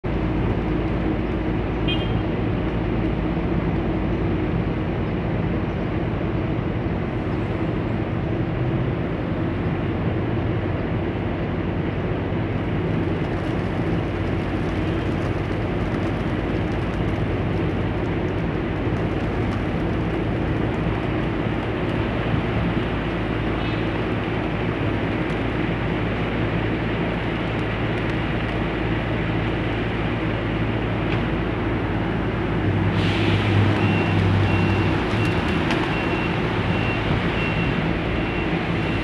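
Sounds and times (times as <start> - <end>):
street noise: 0.0 - 39.0.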